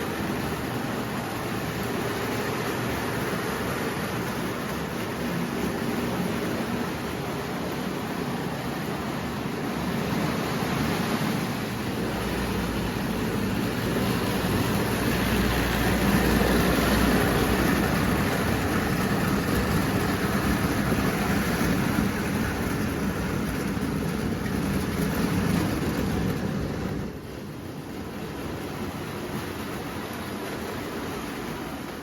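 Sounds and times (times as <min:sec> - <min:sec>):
toy train on track: 0:00.0 - 0:31.8.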